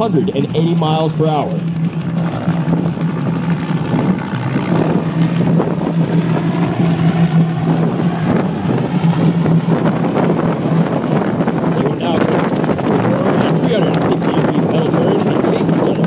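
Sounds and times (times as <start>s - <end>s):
helicopters flying: 0.0s - 16.0s.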